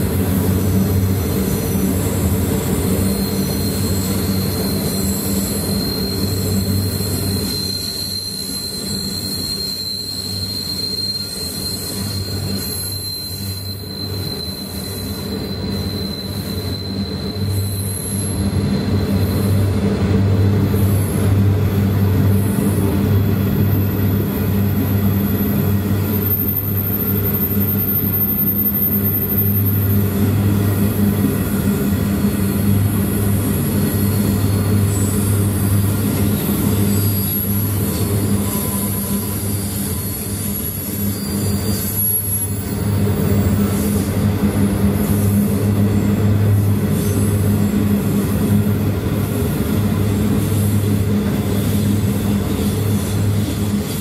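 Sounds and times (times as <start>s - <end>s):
steel wheels rumbling on rail: 0.0s - 54.0s
high-pitched wheel squeals: 0.1s - 44.2s.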